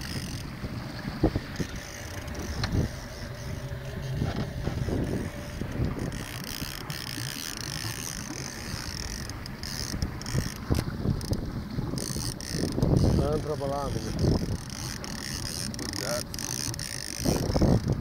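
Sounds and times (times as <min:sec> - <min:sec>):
fishing reel rattling: 0:00.0 - 0:00.5, 0:01.4 - 0:18.0
boat motor running: 0:00.0 - 0:18.0
wind buffeting microphone: 0:00.0 - 0:18.0.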